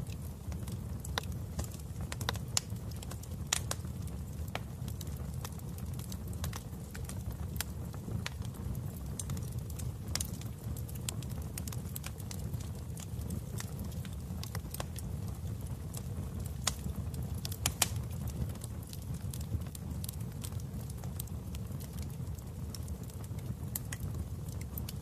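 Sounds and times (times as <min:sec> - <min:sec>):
flames rumbling: 0:00.0 - 0:25.0
wood fire crackling: 0:00.0 - 0:25.0.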